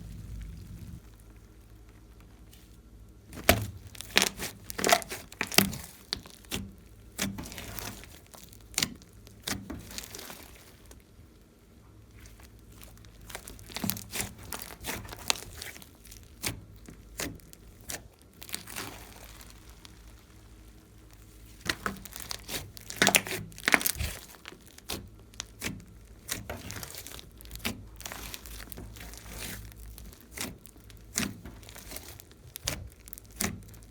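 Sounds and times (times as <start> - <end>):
slime crackling and squishing: 0.0 - 33.9.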